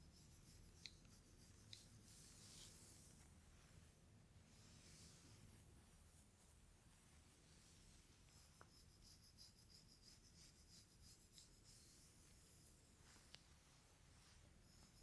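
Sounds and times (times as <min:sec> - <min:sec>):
light scratching through hair: 0:00.0 - 0:15.0.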